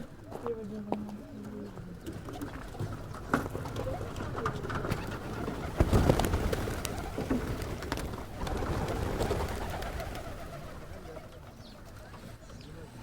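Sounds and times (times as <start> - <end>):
pigeon cooing: 0.0 - 13.0.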